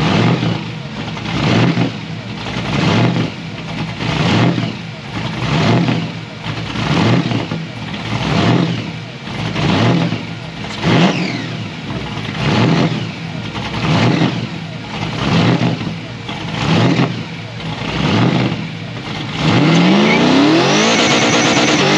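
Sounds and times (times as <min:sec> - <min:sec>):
car engine revving high: 0:00.0 - 0:21.9.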